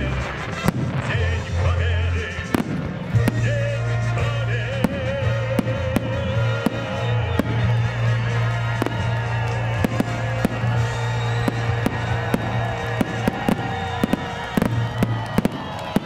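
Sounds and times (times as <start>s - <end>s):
fireworks bursting: 0.0s - 16.0s
music with sung melody: 0.0s - 16.0s.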